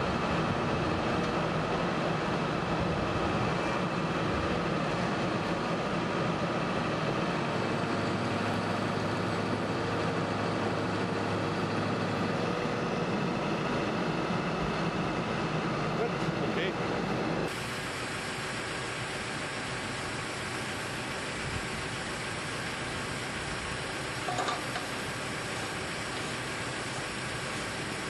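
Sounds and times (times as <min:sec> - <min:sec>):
drill rig engine running: 0:00.0 - 0:28.0.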